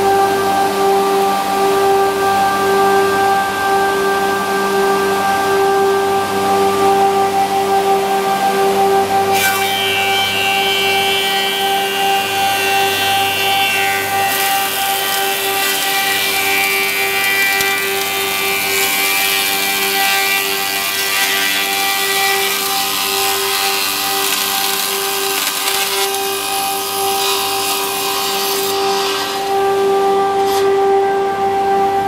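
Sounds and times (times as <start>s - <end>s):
spinning spindles whine: 0.0s - 30.4s
planer cutting wood: 0.0s - 32.0s.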